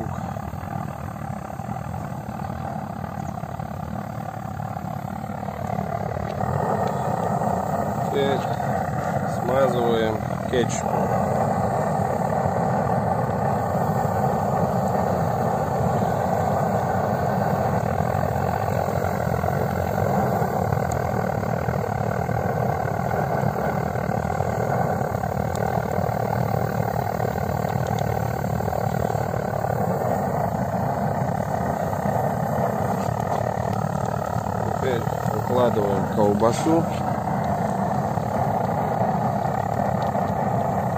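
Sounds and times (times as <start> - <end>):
blowtorch flame rushing: 0.0 - 40.9.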